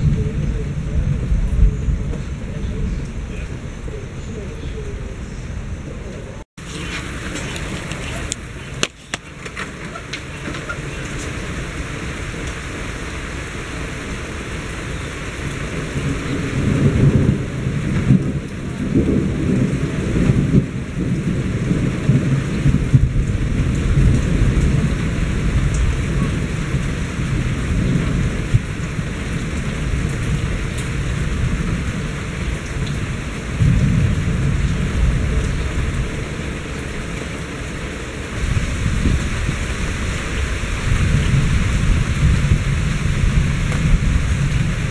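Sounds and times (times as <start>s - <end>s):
steady rain: 0.0s - 44.9s
thunder rumbling: 0.0s - 44.9s.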